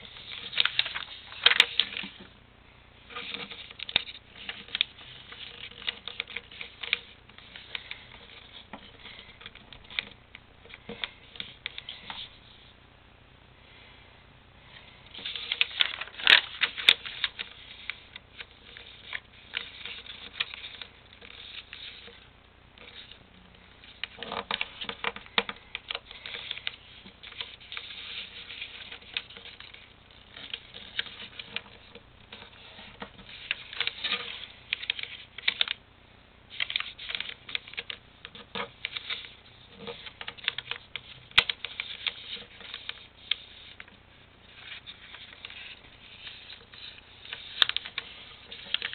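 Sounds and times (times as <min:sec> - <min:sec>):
paper rustling and crinkling: 0:00.0 - 0:02.3, 0:03.1 - 0:10.2, 0:15.1 - 0:22.2, 0:23.8 - 0:35.8, 0:36.5 - 0:48.9.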